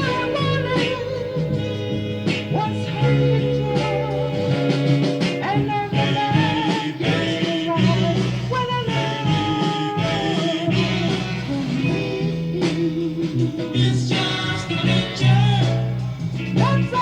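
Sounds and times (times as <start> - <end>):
soul band playing: 0.0 - 17.0.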